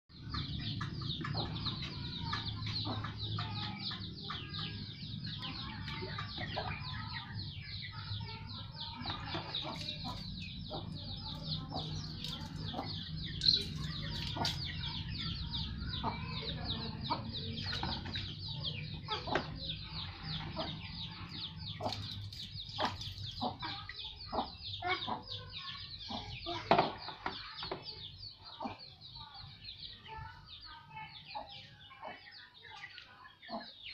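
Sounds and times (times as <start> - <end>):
bird calls: 0.1 - 33.9.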